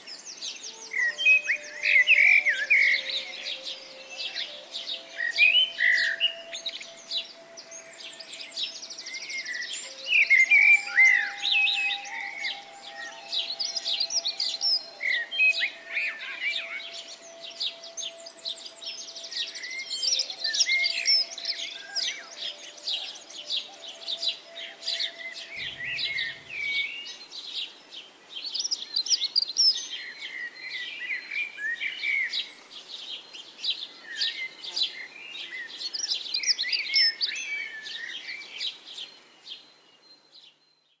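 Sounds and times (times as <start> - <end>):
songbirds singing and chirping: 0.0 - 41.0.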